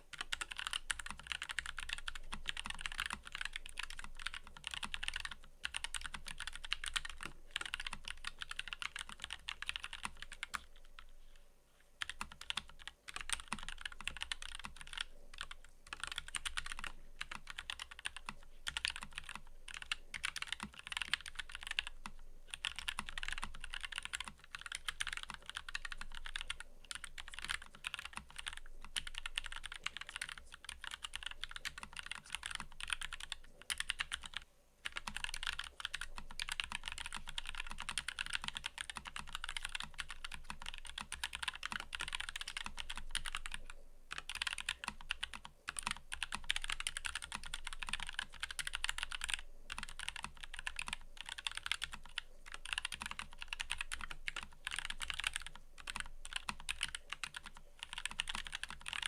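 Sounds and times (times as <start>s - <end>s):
fast typing on mechanical keyboard: 0.0s - 11.0s, 12.0s - 59.0s.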